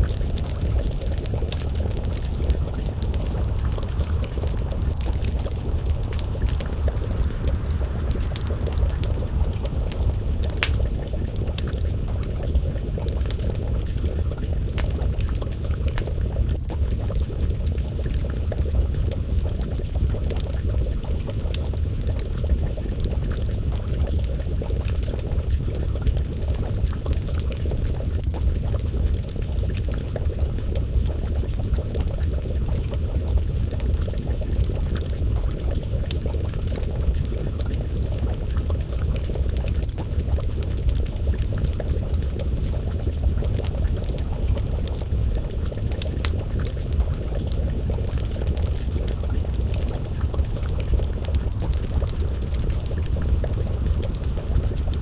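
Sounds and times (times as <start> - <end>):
burning wood crackling: 0.0 - 55.0
stew bubbling in a pot: 0.0 - 55.0.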